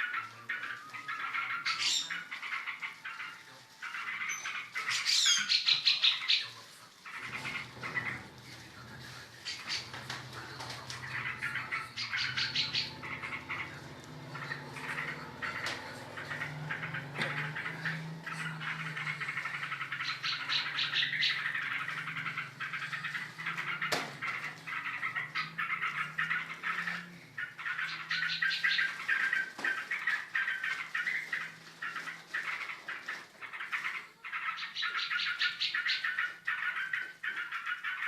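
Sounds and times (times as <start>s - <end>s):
birds chattering trilling song: 0.0s - 38.0s.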